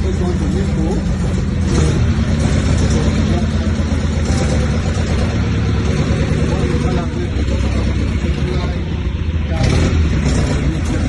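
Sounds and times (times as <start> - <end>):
large engine rumbling: 0.0 - 11.0.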